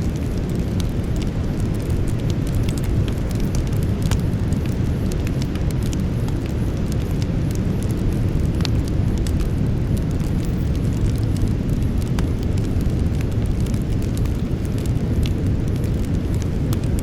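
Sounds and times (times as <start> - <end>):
burning wood crackling and popping: 0.0 - 17.0
campfire flame rushing: 0.0 - 17.0.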